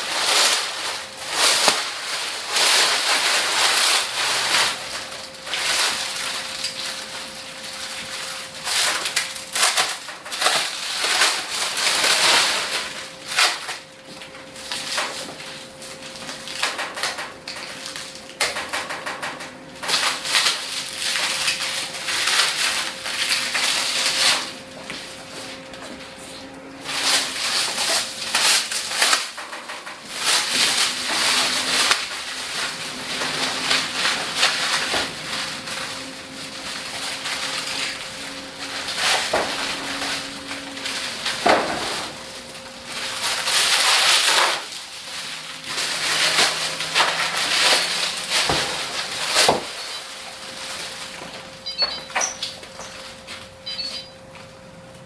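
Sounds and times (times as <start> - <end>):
packaging crinkling and tearing: 0.0 - 25.7, 26.8 - 53.5.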